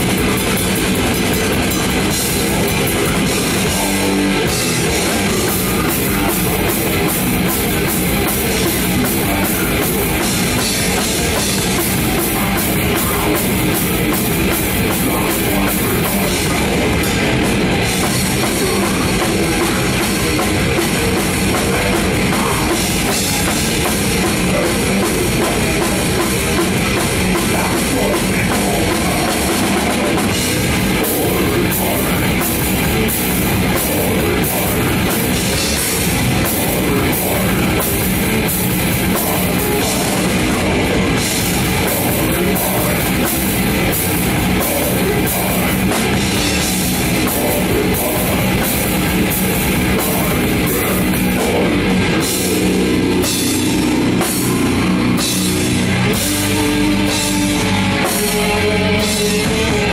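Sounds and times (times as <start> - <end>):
loud drum kit: 0.0 - 59.9
metal band playing live: 0.0 - 59.9.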